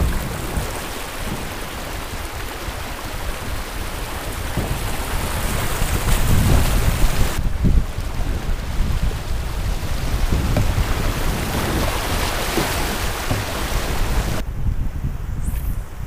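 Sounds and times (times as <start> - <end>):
river water rushing: 0.0 - 14.4
wind buffeting microphone: 0.0 - 16.0.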